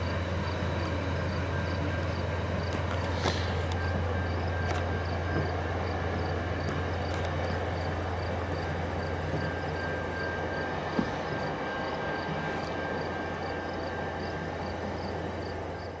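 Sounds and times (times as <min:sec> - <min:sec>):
diesel locomotive rumble: 0:00.0 - 0:16.0
rail noise: 0:00.0 - 0:16.0.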